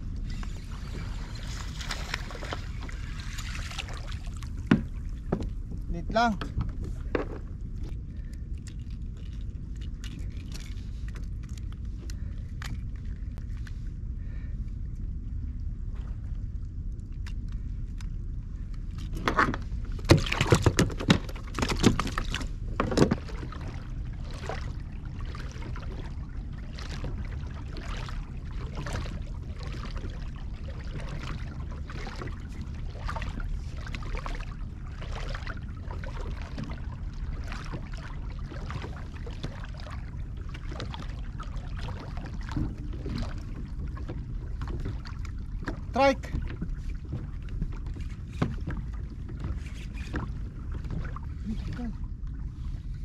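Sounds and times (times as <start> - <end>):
rush of water and wind: 0.0 - 14.6, 15.9 - 53.0.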